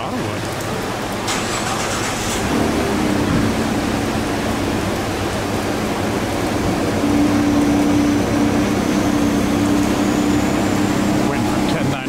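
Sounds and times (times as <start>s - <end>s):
rain falling: 0.0s - 12.0s
low hum: 2.0s - 12.0s.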